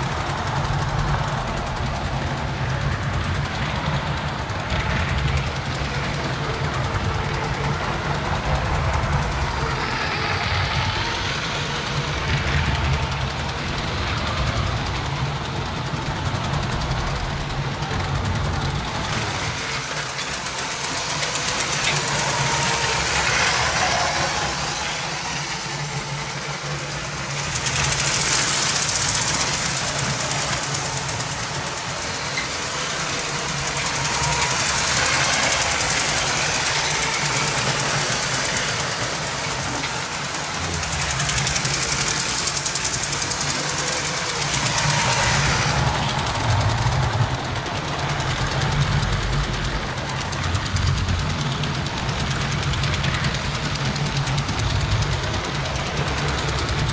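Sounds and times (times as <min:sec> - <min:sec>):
toy train motor running: 0:00.0 - 0:56.9
wheels rattling along track: 0:00.0 - 0:56.9.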